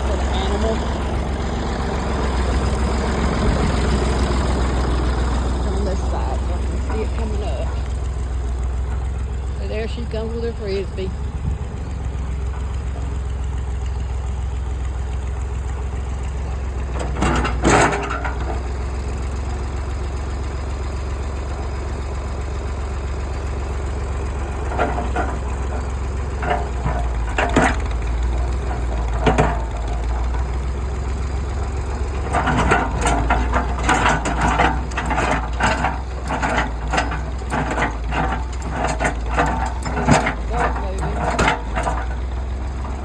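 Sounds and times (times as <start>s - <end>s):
tractor engine droning: 0.0s - 43.0s.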